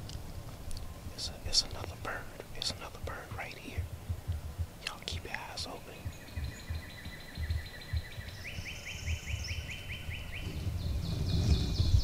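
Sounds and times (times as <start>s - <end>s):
low rumble: 0.0s - 12.0s
songbirds trilling: 0.6s - 12.0s.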